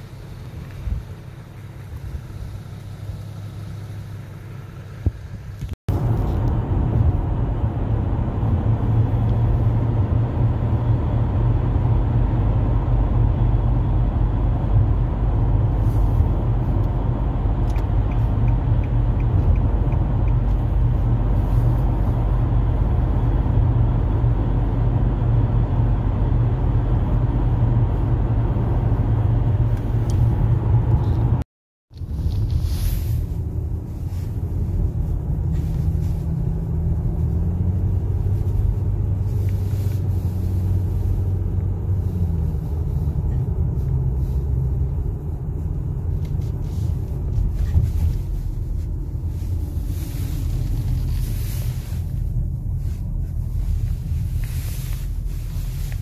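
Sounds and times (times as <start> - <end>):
car cabin road and engine noise: 0.0 - 56.0
low outdoor rumble: 0.0 - 56.0.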